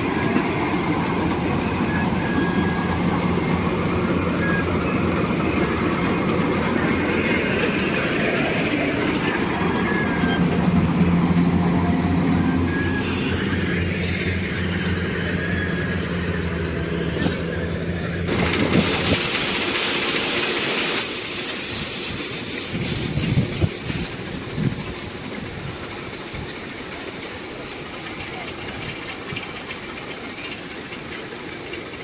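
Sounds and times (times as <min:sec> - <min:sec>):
loud hissing rush: 0:00.0 - 0:16.7, 0:18.3 - 0:32.0
combine harvester engine: 0:00.0 - 0:32.0.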